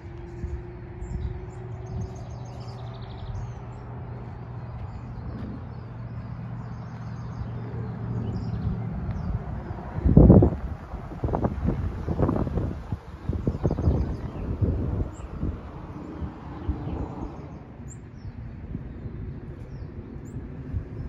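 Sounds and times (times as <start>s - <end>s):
distant engine hum: 0.0s - 21.0s
small birds chirping: 0.0s - 21.0s.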